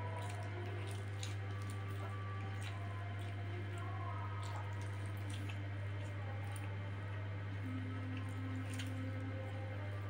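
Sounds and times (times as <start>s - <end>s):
man chewing food: 0.0s - 9.1s
steady low hum: 0.0s - 10.0s.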